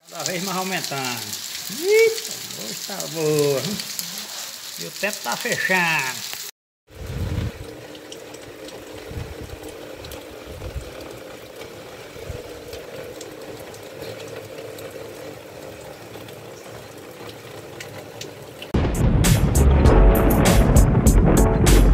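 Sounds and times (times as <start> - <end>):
water pouring off metal sheet: 0.0 - 21.4
rain falling: 0.0 - 21.9.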